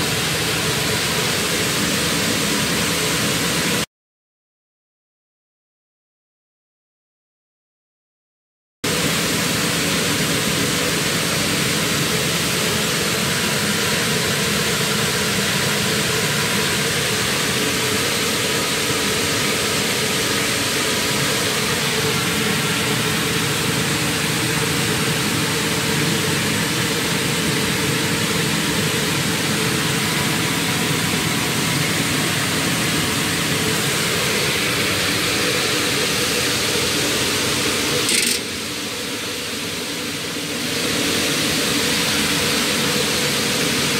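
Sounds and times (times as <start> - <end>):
industrial machine drone: 0.0 - 3.9, 8.9 - 43.9.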